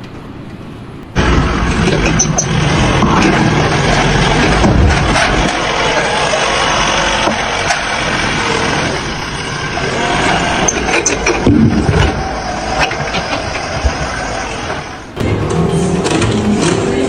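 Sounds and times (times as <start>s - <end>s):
heavy machine engine running: 1.1s - 17.0s
knocks and clanks: 1.2s - 15.3s.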